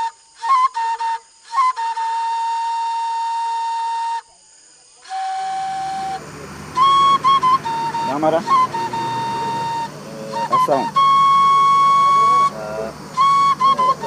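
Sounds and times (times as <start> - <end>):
flute-like wind instrument: 0.0 - 14.0.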